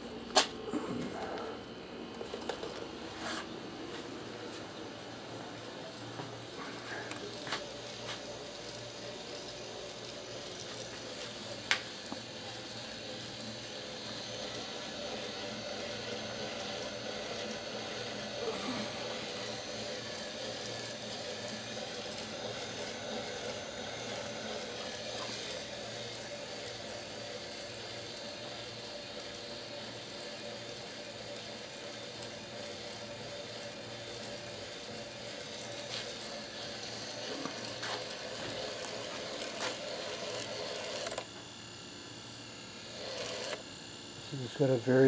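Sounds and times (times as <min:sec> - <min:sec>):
wooden rotary rig humming: 0:00.0 - 0:41.4.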